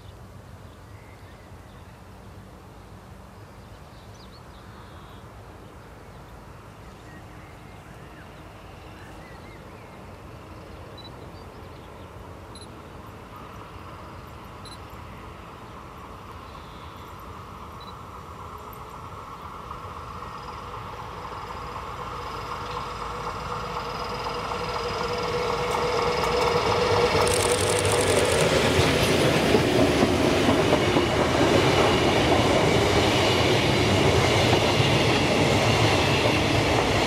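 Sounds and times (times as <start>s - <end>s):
train approaching: 1.5s - 37.0s
steady locomotive whine: 4.4s - 37.0s.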